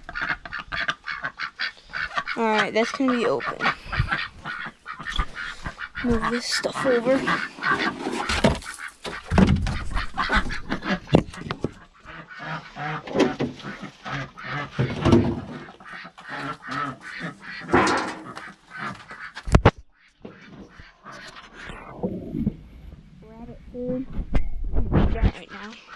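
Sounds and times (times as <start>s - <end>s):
ducks quacking: 0.0s - 22.0s, 25.3s - 25.9s.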